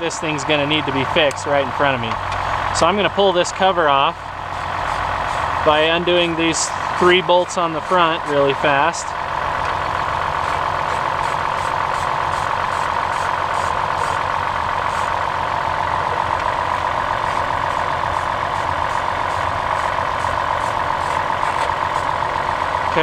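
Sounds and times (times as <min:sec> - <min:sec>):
car engine idling rough: 0:00.0 - 0:23.0.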